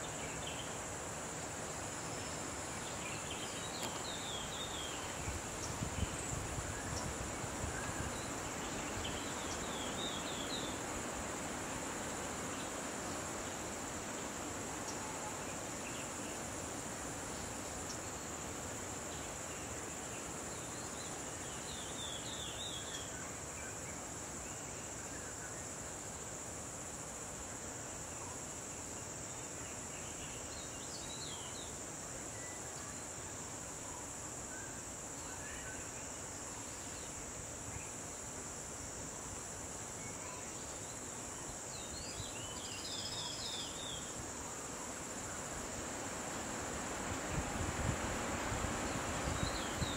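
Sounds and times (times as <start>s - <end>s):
high-pitched insect chorus: 0.0s - 49.9s
soft even hiss: 0.0s - 49.9s.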